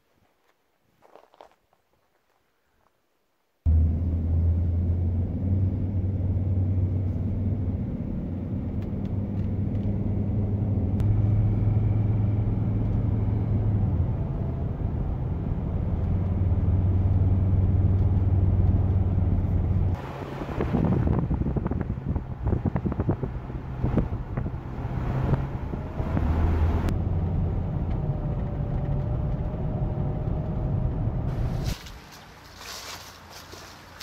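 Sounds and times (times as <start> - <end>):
car engine and road drone: 3.6 - 34.0.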